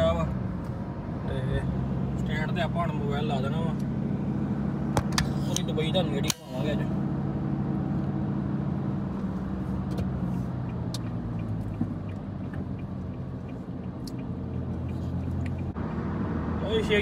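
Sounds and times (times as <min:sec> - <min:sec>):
car engine hum: 0:00.0 - 0:17.0
road noise inside car: 0:00.0 - 0:17.0.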